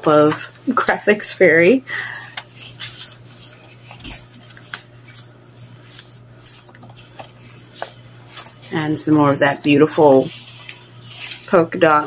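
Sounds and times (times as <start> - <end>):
paper pages rustling: 0.0 - 1.4, 2.0 - 12.0.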